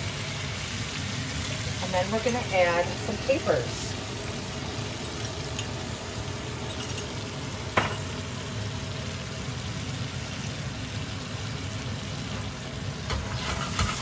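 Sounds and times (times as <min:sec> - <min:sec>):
butter sauce sizzling and bubbling: 0:00.0 - 0:14.0.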